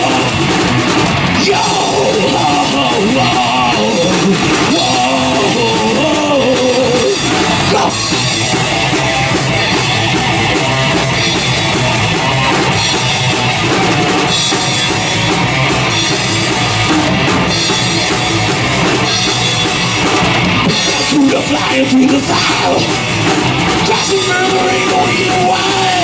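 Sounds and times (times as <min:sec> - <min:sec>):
drum kit beat: 0:00.0 - 0:26.0
electric guitar: 0:00.0 - 0:26.0
rock band instrumental: 0:00.0 - 0:26.0.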